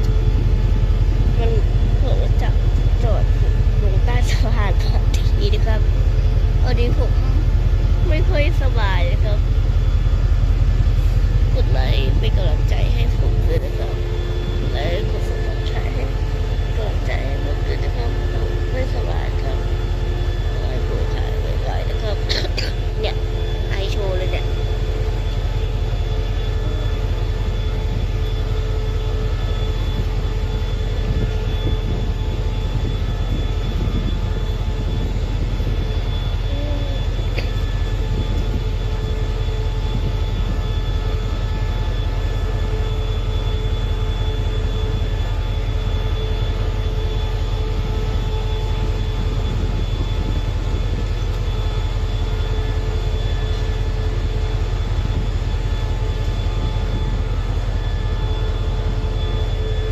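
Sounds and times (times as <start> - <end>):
locomotive engine idling: 0.0 - 59.9
steady whining tones: 0.0 - 59.9.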